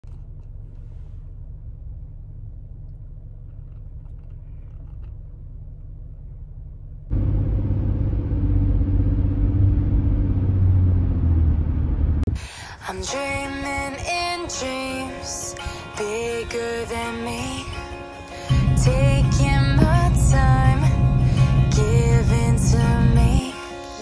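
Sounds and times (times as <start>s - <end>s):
car road noise rumble: 0.0s - 23.5s
tyres and engine droning: 0.0s - 24.0s.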